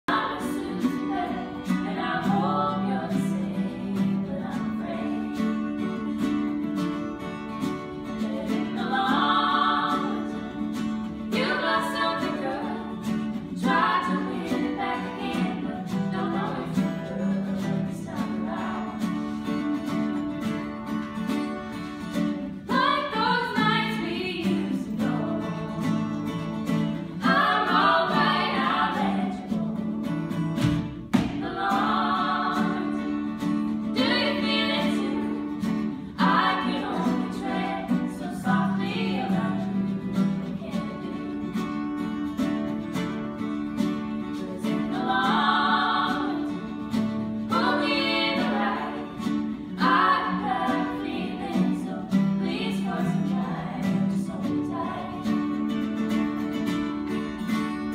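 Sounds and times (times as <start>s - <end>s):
group of voices singing: 0.0s - 57.5s
strummed acoustic guitars: 0.1s - 57.9s.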